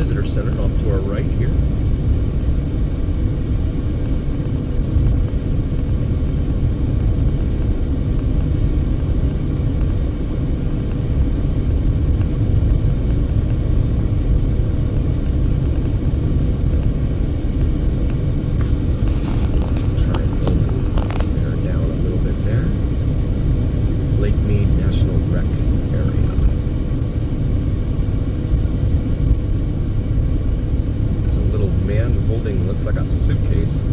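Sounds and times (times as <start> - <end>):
car road and engine rumble: 0.0 - 33.9
faint steady hum: 0.0 - 33.9.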